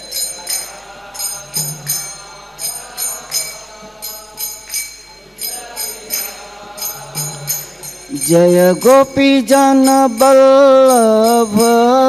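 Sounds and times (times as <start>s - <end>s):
hand cymbals clashing: 0.0s - 12.0s.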